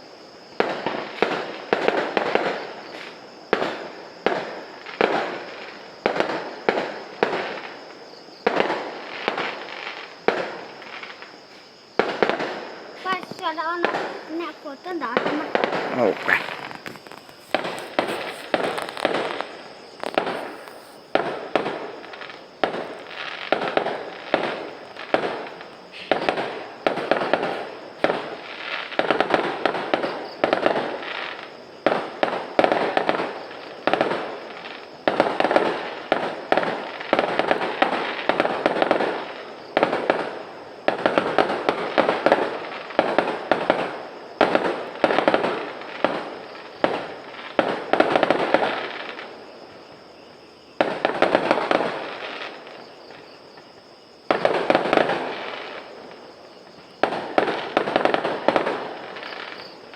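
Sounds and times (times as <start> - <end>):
fireworks bangs: 0.5 - 49.9, 50.8 - 59.9.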